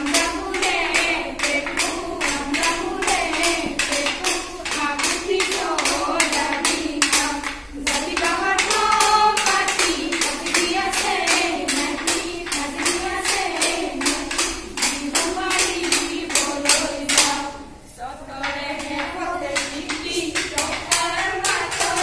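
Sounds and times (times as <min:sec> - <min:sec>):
hand claps: 0:00.0 - 0:17.6, 0:18.4 - 0:22.0
women singing in chorus: 0:00.0 - 0:22.0.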